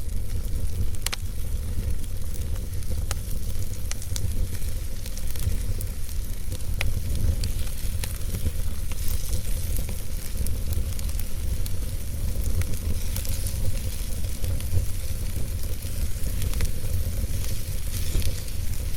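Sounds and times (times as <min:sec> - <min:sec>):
log fire crackling and popping: 0:00.0 - 0:18.9.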